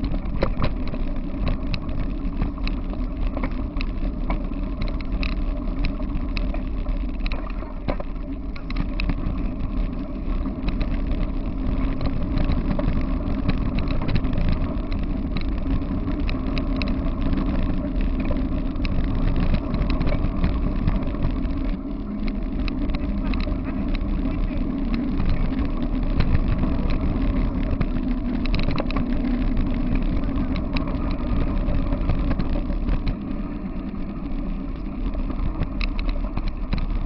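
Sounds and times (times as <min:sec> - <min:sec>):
small clicks and rattles: 0:00.0 - 0:37.0
wheels rolling over gravel: 0:00.0 - 0:37.0
wind on microphone: 0:00.0 - 0:37.0.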